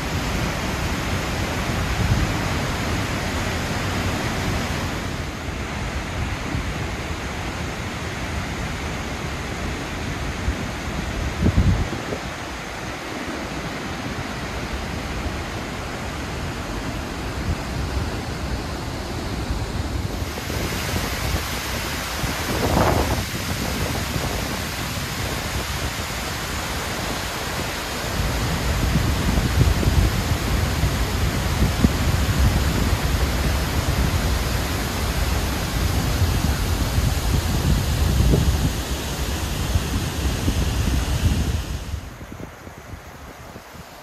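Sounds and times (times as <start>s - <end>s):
waterfall roaring: 0.0s - 44.0s
wind rumble on microphone: 0.0s - 44.0s.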